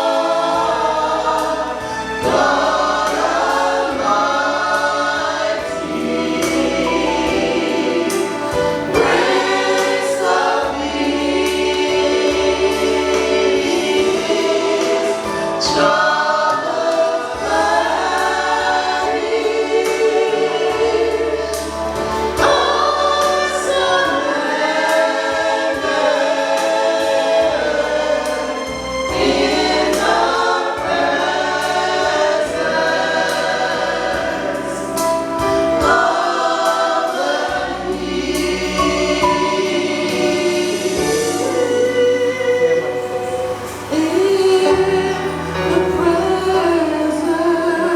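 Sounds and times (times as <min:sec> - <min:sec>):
choir singing a gospel hymn: 0:00.0 - 0:47.9.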